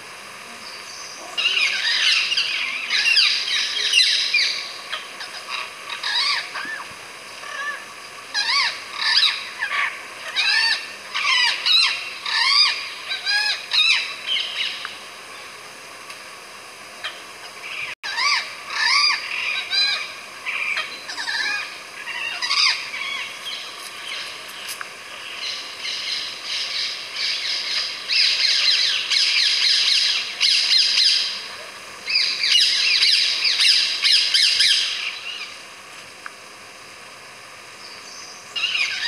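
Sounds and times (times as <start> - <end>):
birds chirping and chattering: 0.4 - 15.6, 17.0 - 35.6, 37.7 - 39.0.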